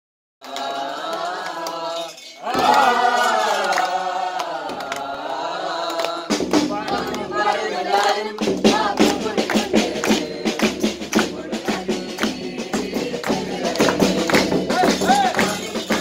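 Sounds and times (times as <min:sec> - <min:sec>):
group singing a carol: 0:00.4 - 0:16.0
sharp percussion strokes: 0:00.6 - 0:16.0.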